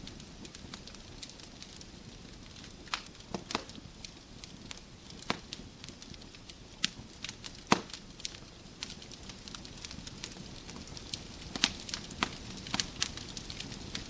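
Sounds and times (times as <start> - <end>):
logs popping and crackling: 0.0 - 14.0
wood fire hissing: 0.0 - 14.0.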